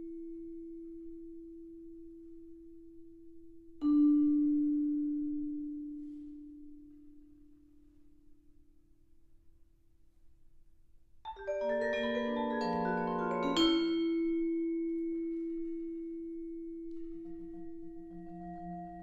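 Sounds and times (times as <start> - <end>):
vibraphone notes: 0.0 - 8.4, 11.3 - 19.0.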